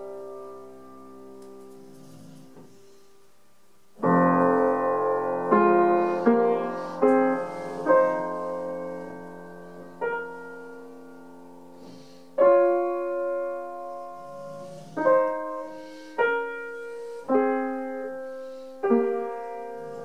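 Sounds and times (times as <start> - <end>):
piano chords ringing: 0.0 - 2.8, 3.8 - 20.0.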